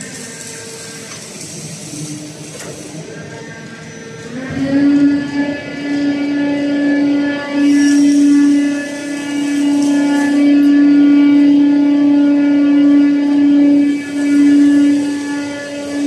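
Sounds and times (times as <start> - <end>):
hydraulic pump whine: 0.0 - 16.0.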